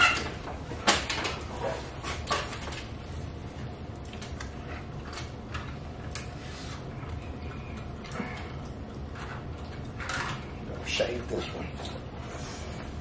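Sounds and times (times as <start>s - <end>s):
electrical wires clicking and rustling: 0.0s - 12.2s
low room hum: 0.0s - 13.0s.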